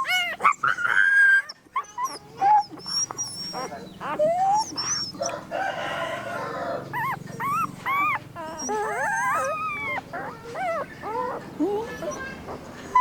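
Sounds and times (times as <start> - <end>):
dog howling: 0.0 - 13.0
dog whining: 0.0 - 13.0.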